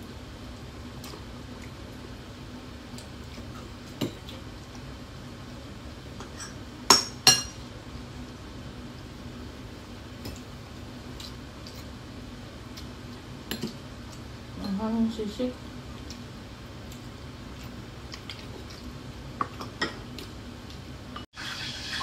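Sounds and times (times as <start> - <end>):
faint steady hum: 0.0 - 21.3.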